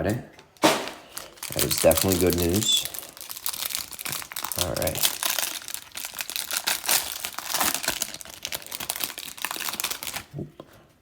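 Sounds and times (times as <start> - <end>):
wrapping crinkling and tearing: 0.5 - 10.4.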